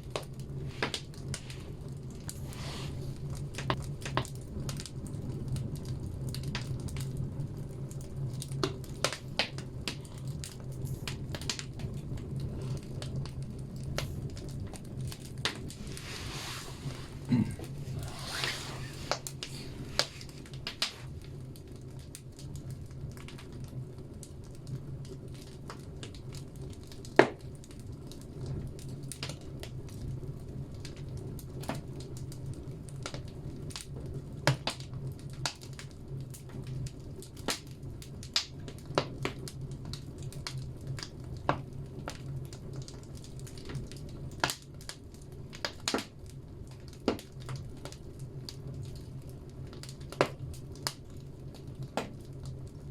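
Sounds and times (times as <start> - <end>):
fire rumbling in stove: 0.0 - 52.9
logs crackling and popping: 0.0 - 52.9.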